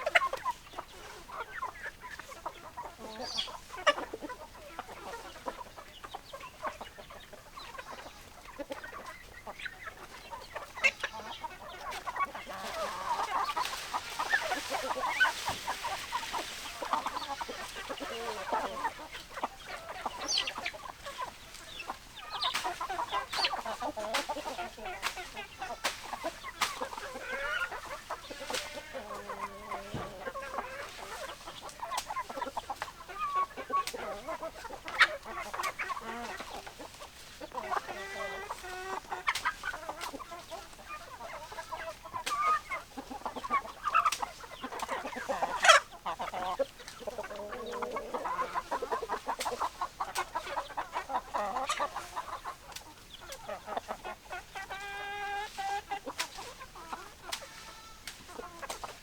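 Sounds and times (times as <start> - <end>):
hens clucking: 0.0 - 59.0.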